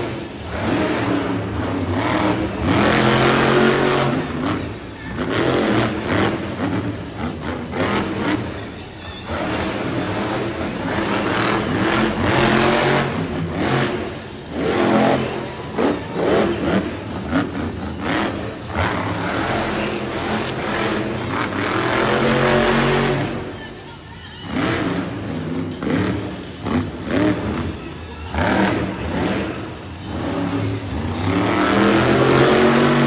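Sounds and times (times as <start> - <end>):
monster truck engine revving: 0.0 - 23.6, 24.4 - 33.0.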